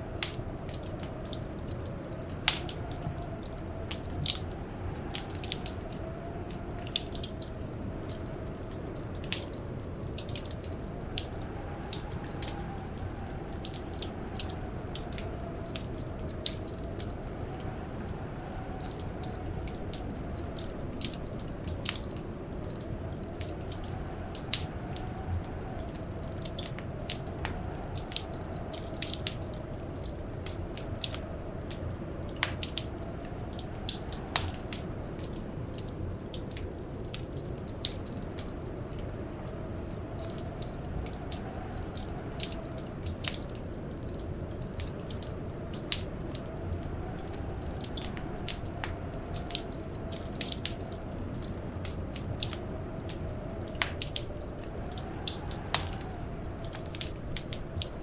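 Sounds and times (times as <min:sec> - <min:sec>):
faint howling wind: 0:00.0 - 0:58.0
wood fire crackling and popping: 0:00.0 - 0:58.0.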